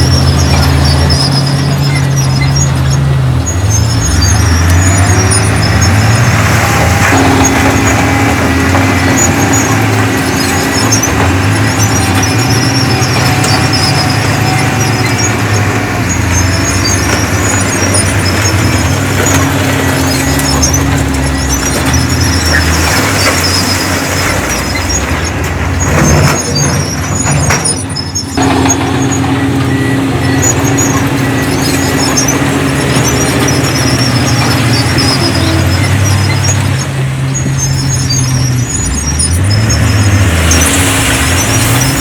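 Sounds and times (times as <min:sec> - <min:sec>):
diesel machinery engine under load: 0:00.0 - 0:42.0
high-pitched squeaking: 0:00.0 - 0:42.0.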